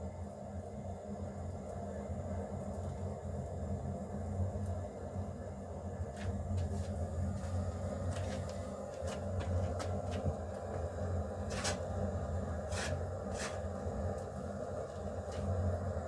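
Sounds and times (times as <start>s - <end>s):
low fire rumble: 0.0s - 16.0s.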